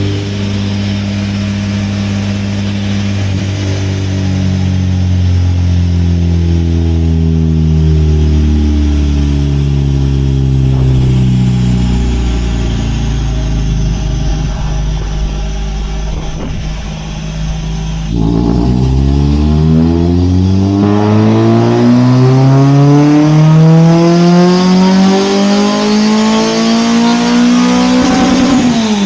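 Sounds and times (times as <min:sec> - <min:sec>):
car engine running hard: 0:00.0 - 0:29.0.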